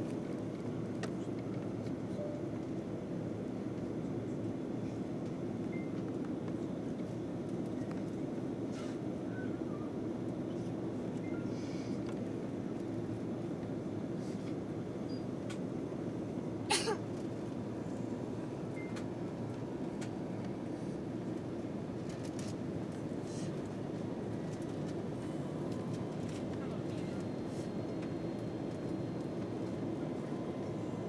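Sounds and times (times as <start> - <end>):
airliner cabin engine rush: 0.0 - 31.0.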